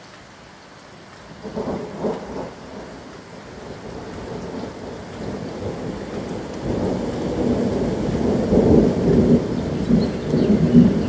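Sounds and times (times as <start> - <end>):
steady rain: 0.0 - 11.0
thunder rolling: 1.4 - 11.0.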